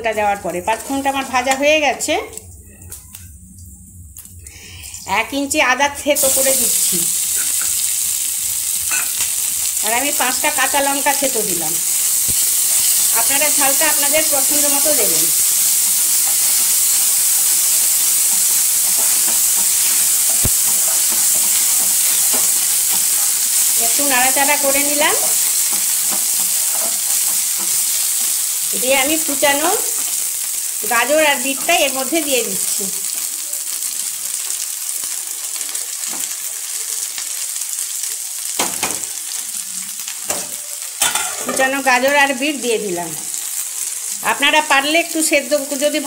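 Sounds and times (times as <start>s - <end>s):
food sizzling in hot oil: 0.0s - 2.4s, 3.1s - 46.0s.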